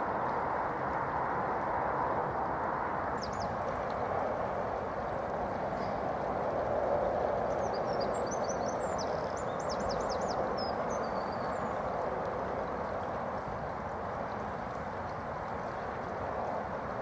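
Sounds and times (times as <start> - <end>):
songbird singing: 3.1 - 17.0.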